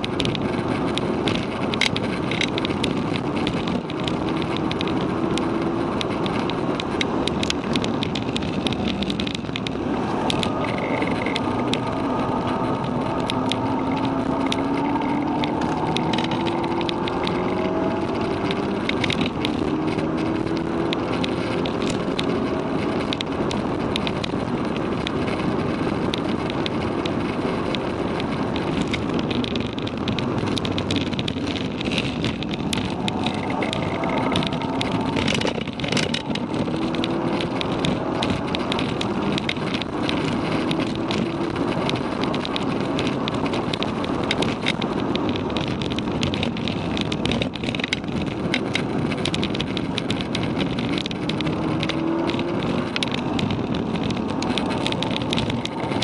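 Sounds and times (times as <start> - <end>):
car engine accelerating hard: 0.0 - 56.0
road tyre and wind noise: 0.0 - 56.0.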